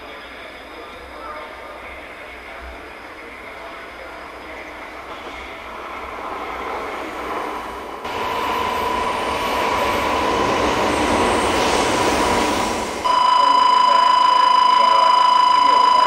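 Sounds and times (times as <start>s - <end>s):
train rumble: 0.0s - 13.1s
high train whine: 0.0s - 16.0s.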